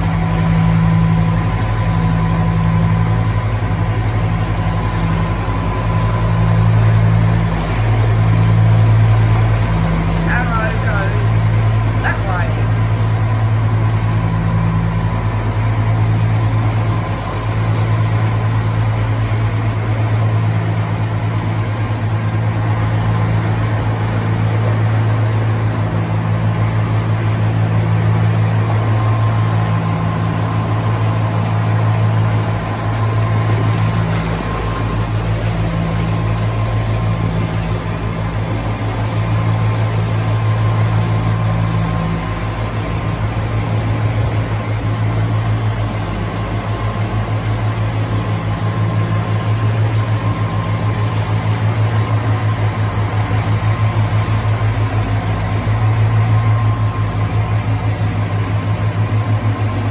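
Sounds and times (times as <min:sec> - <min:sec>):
boat diesel engine running: 0:00.0 - 0:59.9.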